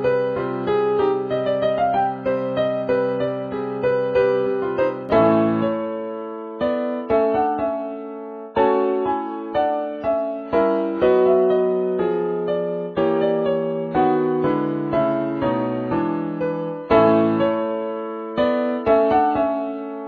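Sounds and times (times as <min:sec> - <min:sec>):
piano-like keyboard chords: 0:00.0 - 0:20.0.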